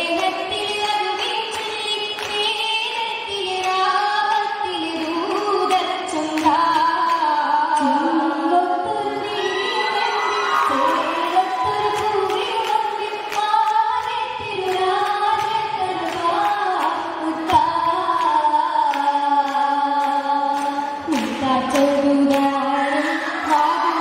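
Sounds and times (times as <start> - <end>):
rhythmic hand claps: 0.0 - 8.0, 10.6 - 24.0
women singing in chorus: 0.0 - 24.0.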